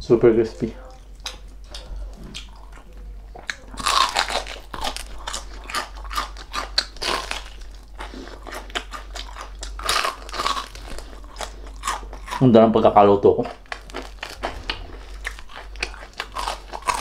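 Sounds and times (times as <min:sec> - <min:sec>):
crunching crispy skin: 0:00.4 - 0:12.5, 0:13.4 - 0:17.0.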